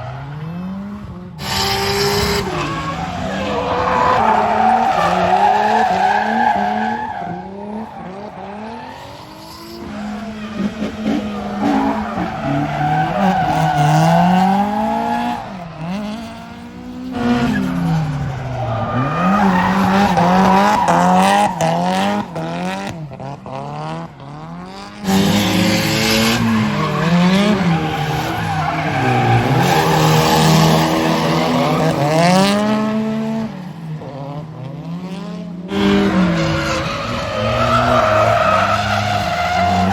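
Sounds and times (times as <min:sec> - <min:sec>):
tires screeching: 0:00.0 - 0:34.4, 0:35.7 - 0:39.9
car engines revving: 0:00.0 - 0:39.9.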